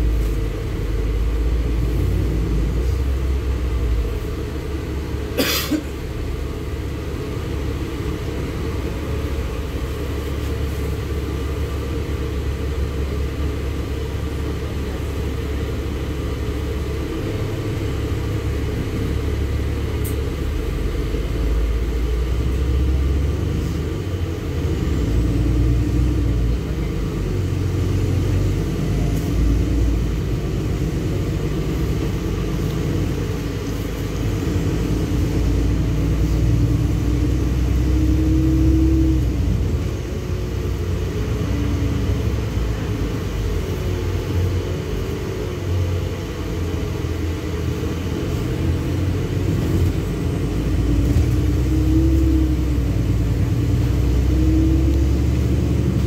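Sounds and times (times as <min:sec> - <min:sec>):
bus engine rumble: 0:00.0 - 0:56.0
road noise: 0:00.0 - 0:56.0.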